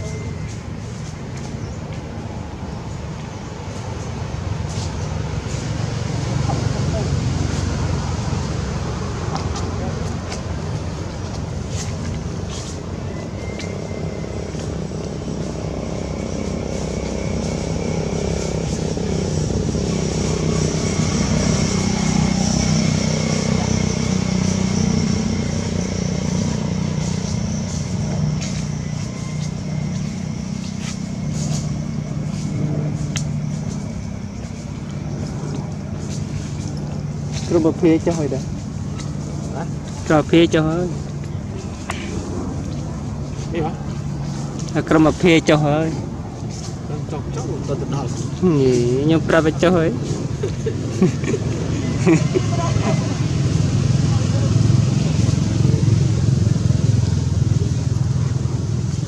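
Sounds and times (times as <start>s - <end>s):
low mechanical hum: 0.0s - 59.0s
low outdoor rumble: 0.0s - 59.0s.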